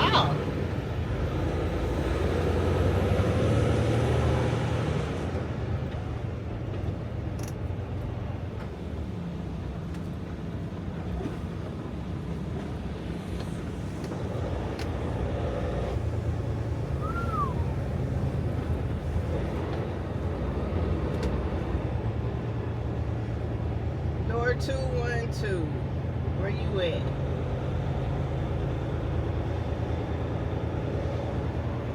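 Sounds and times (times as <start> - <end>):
truck diesel engine running: 0.0 - 31.9.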